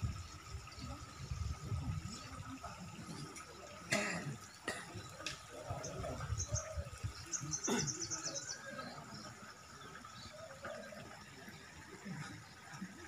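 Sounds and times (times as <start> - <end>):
distant voices: 0.1 - 13.0.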